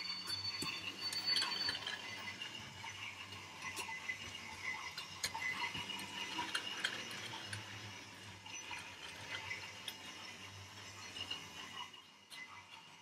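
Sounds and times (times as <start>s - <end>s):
toy train motor whir: 0.0s - 13.0s
wheels clicking over track joints: 0.0s - 13.0s.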